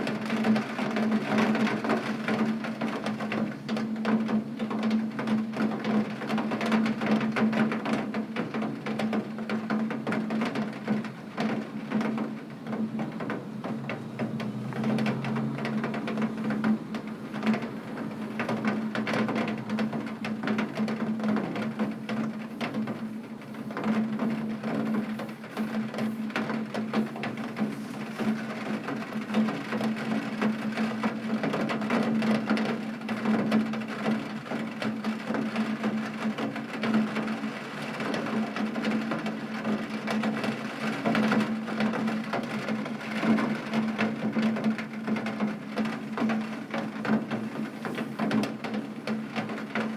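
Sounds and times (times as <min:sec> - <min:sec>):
heavy rain on a window: 0:00.0 - 0:49.9.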